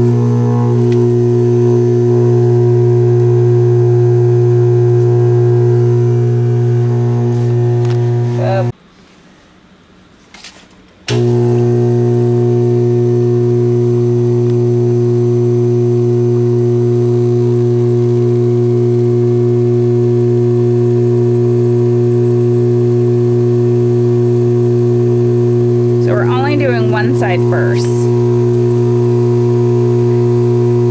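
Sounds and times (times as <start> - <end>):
vibrator machine humming: 0.0 - 8.8, 11.1 - 30.9.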